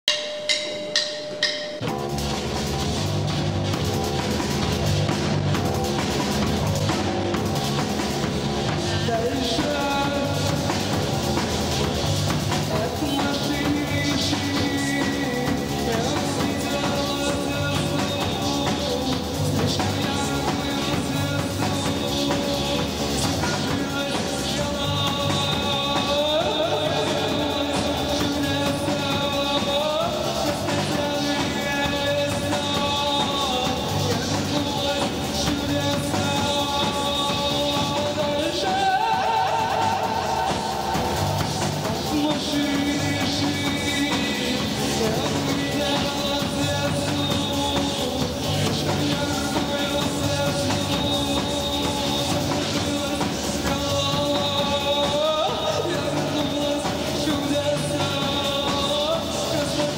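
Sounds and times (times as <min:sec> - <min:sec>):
drum kit beat: 0:00.0 - 0:59.9
live rock band playing: 0:00.1 - 0:59.9
electric bass guitar: 0:01.8 - 0:59.9.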